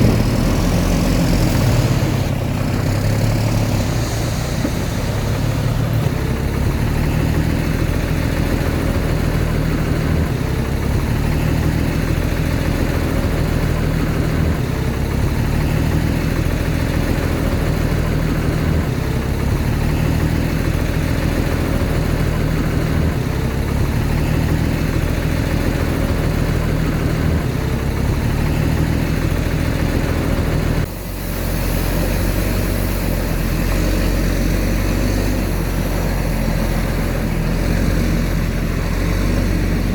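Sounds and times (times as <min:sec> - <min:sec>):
heavy diesel machinery drone: 0:00.0 - 0:39.9.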